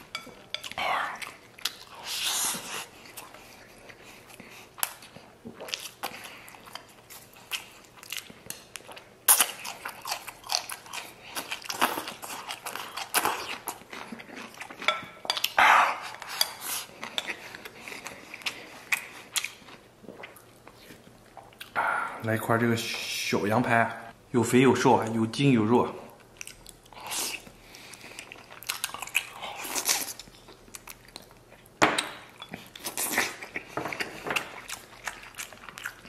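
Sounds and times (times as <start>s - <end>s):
chewing with lip smacks: 0.0s - 21.8s, 26.2s - 31.7s, 32.4s - 36.0s.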